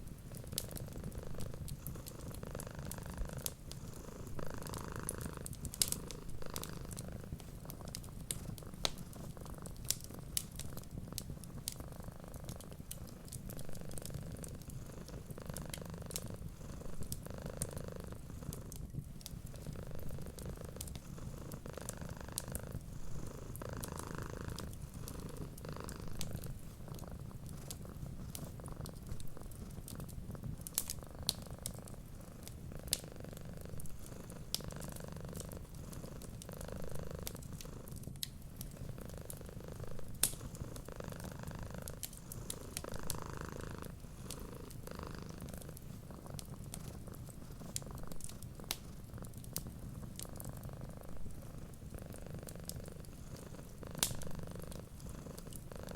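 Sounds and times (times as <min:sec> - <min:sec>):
wood fire crackling: 0:00.0 - 0:55.7
cat purring: 0:00.0 - 0:55.9.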